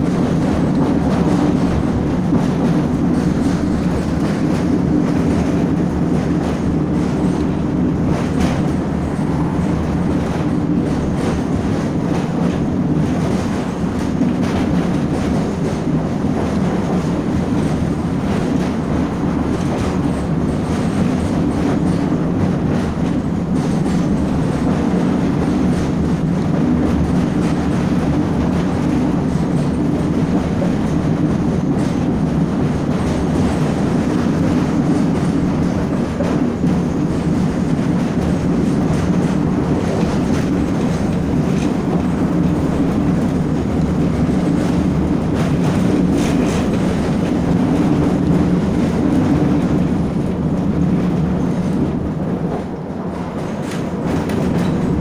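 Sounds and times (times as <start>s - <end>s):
train rumbling on rails: 0.0s - 55.0s
wheels clickety-clack: 0.0s - 55.0s.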